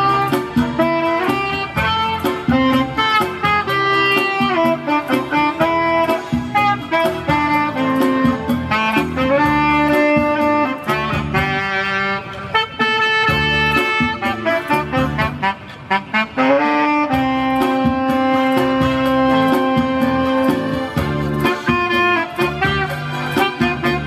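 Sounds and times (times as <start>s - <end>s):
band backing with steady beat: 0.0s - 24.0s
saxophone melody: 0.0s - 24.0s.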